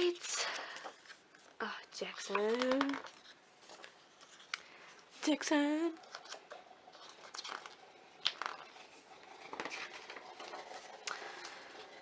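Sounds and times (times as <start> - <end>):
paper pages rustling and turning: 0.0 - 5.3, 6.0 - 12.0.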